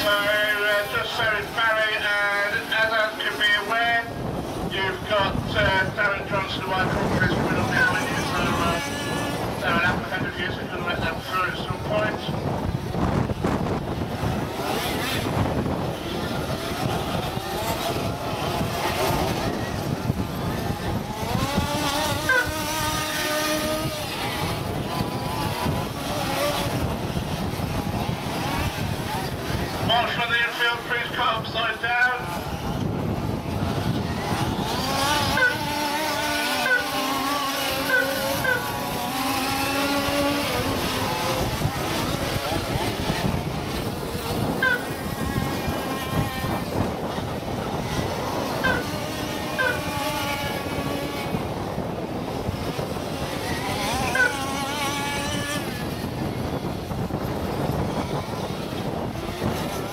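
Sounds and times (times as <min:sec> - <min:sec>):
model buggy engines revving: 0:00.0 - 0:59.9
wind rumbling on microphone: 0:00.0 - 0:59.9.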